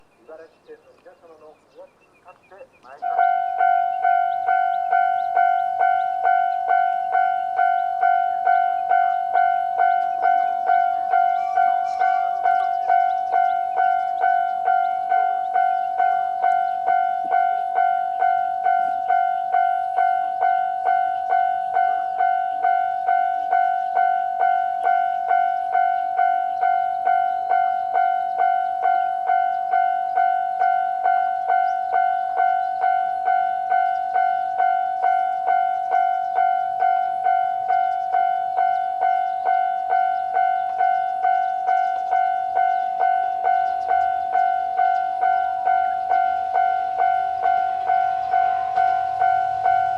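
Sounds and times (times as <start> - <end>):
level crossing electronic bell: 3.0 - 49.9.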